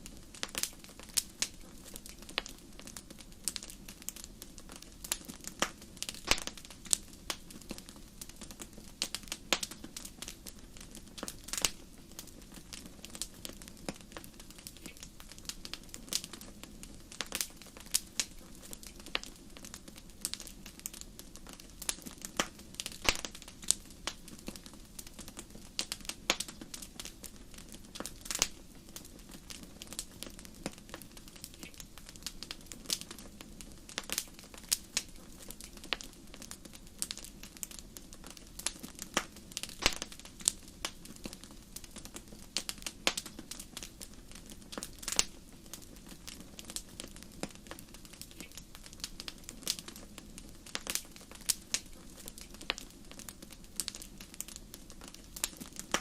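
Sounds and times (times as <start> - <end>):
flames rumbling: 0.0 - 56.0
wood fire crackling and popping: 0.0 - 56.0.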